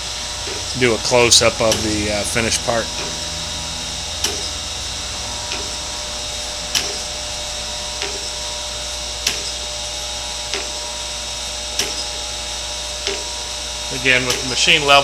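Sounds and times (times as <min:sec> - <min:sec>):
grinder humming: 0:00.0 - 0:15.0
sharp machine clicks: 0:00.0 - 0:15.0.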